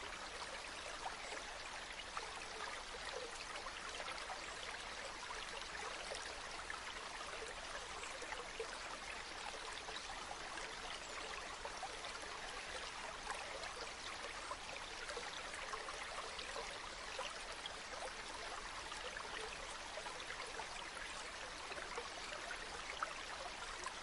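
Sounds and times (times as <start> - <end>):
running water babbling: 0.0 - 24.0.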